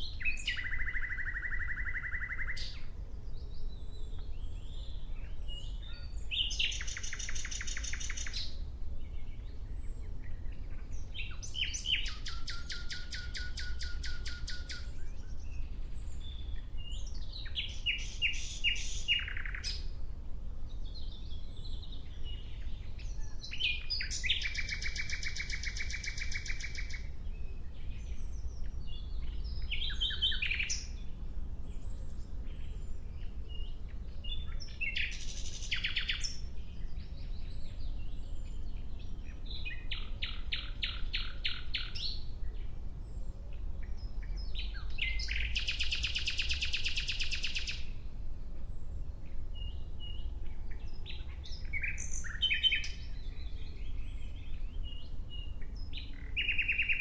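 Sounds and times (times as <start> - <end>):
nightingale singing: 0.0 - 20.0, 20.7 - 48.0, 49.2 - 57.0.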